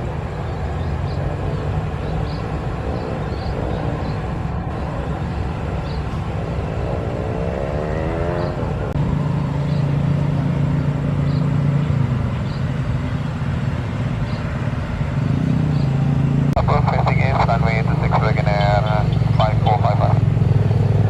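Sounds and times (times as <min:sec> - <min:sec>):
low engine hum: 0:00.0 - 0:21.0
vehicle engines running: 0:00.0 - 0:21.0.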